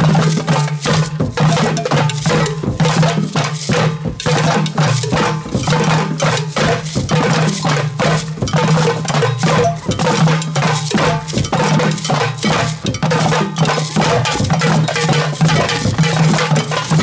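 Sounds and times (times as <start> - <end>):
group hand drumming: 0.0 - 17.0.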